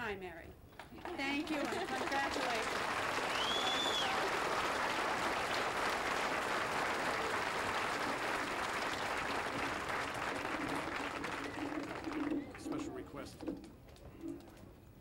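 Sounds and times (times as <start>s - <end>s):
crowd applauding: 1.0s - 13.0s.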